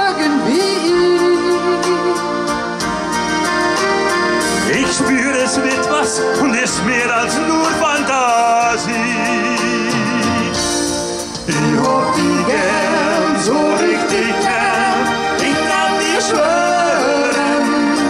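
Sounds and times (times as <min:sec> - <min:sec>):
man and woman singing: 0:00.0 - 0:02.3, 0:04.6 - 0:10.8, 0:11.5 - 0:18.0
instrumental backing music: 0:00.0 - 0:18.0.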